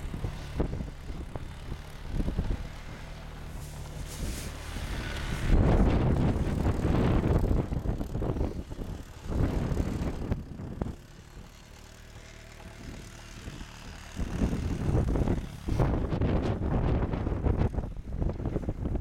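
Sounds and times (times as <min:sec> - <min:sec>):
wind buffeting microphone: 0:00.0 - 0:11.5, 0:12.8 - 0:19.0.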